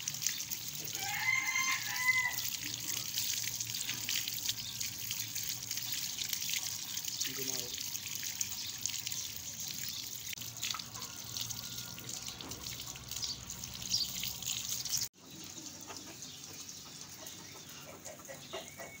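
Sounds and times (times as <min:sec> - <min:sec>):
water from hose splashing: 0:00.0 - 0:17.6.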